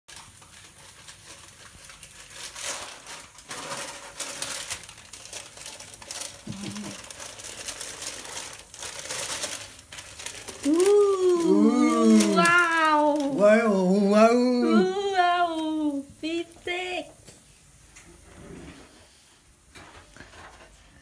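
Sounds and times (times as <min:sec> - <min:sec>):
paper wrapping rustling: 0:00.1 - 0:17.0.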